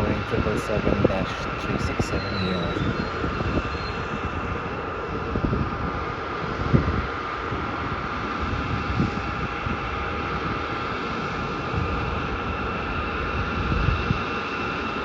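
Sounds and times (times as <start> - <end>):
distant jet engines whining: 0.0 - 15.0.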